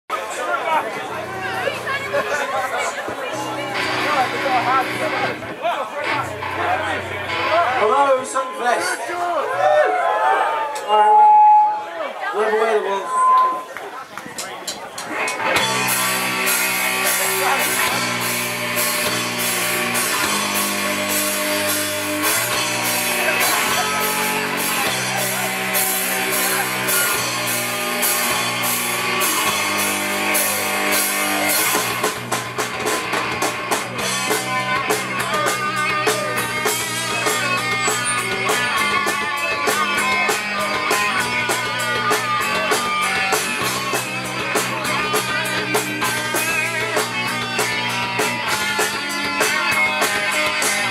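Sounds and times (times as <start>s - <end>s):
live rock band playing: 0.1s - 50.9s.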